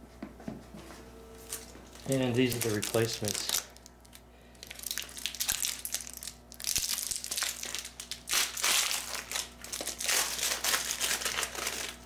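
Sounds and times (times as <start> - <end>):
packaging crinkling: 1.5 - 12.0.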